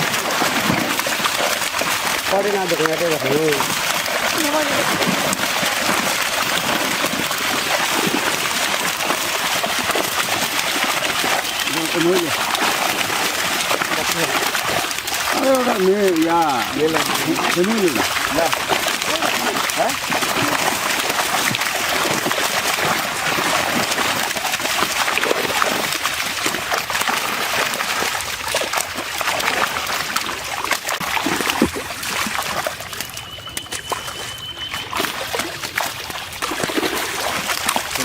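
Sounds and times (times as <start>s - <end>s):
fish thrashing in water: 0.0s - 38.0s
water splashing and trickling: 0.0s - 38.0s.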